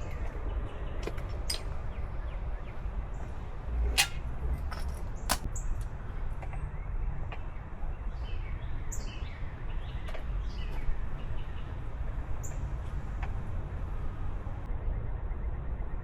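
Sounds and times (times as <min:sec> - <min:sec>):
songbirds chirping: 0:00.0 - 0:14.6.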